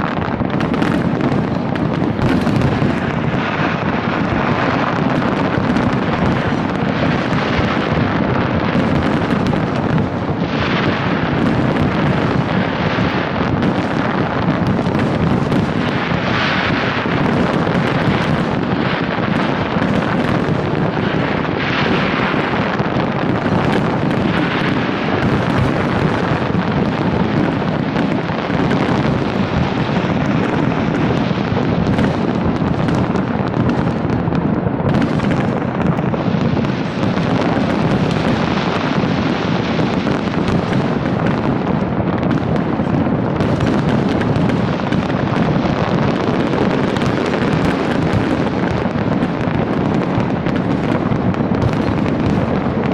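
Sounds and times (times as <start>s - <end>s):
fireworks barrage of bangs and crackle: 0.0s - 52.9s.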